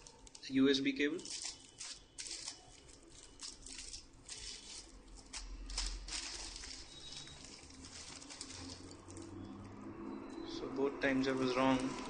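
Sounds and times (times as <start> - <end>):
plastic packaging crinkling: 0.0 - 10.4, 11.2 - 12.0.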